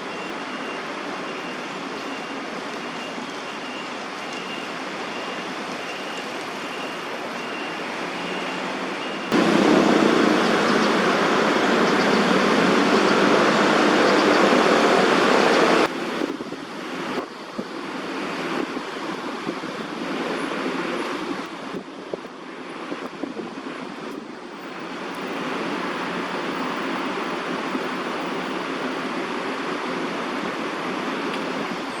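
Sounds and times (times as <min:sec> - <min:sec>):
steady rushing noise: 0:04.8 - 0:32.0.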